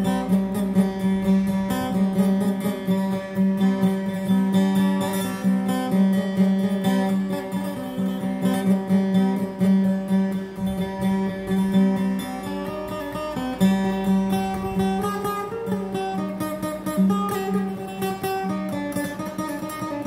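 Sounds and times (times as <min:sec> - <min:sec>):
low guitar drone note: 0:00.0 - 0:05.5, 0:07.3 - 0:18.0
acoustic guitar plucking melody: 0:00.0 - 0:20.0.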